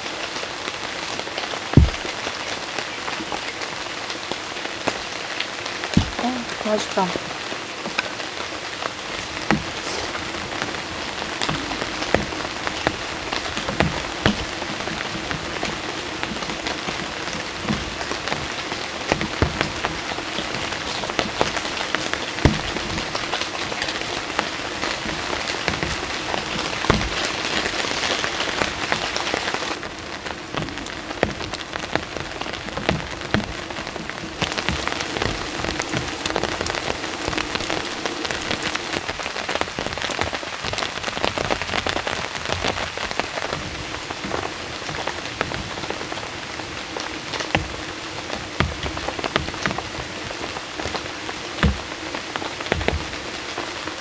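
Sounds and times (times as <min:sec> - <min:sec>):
heavy raindrops clicking: 0:00.0 - 0:54.0
steady rain hiss: 0:00.0 - 0:54.0.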